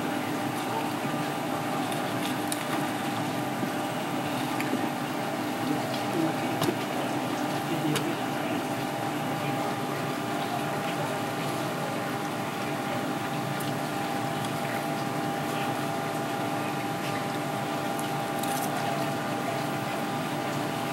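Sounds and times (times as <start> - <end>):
mechanical hum and hiss: 0.0 - 20.9.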